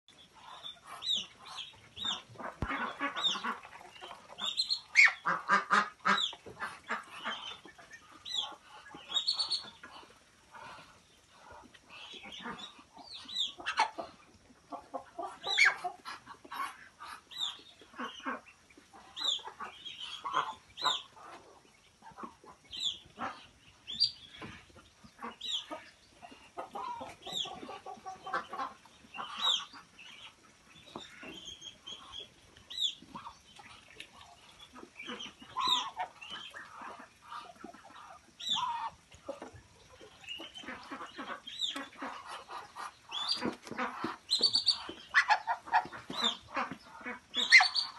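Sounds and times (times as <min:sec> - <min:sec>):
poultry clucking: 0:00.1 - 0:47.9.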